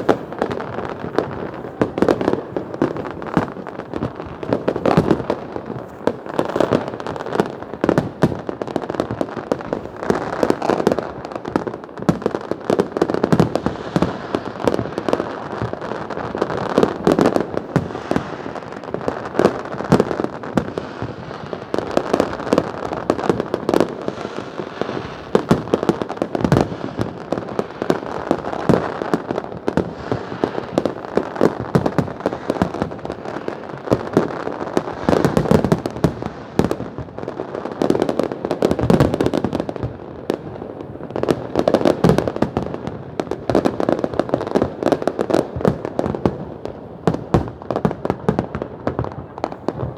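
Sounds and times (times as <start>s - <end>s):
fireworks and firecrackers banging: 0.0s - 49.9s.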